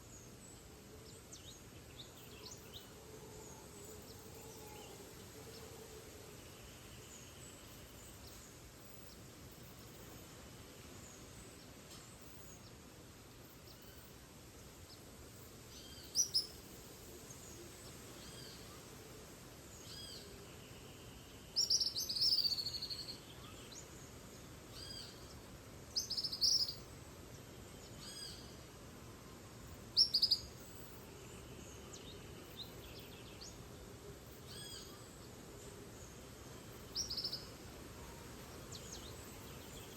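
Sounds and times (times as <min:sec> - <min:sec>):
insects and forest noise: 0:00.0 - 0:39.9.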